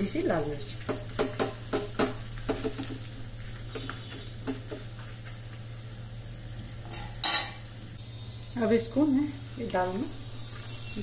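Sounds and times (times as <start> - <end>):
spices sizzling in a pan: 0.0 - 11.0.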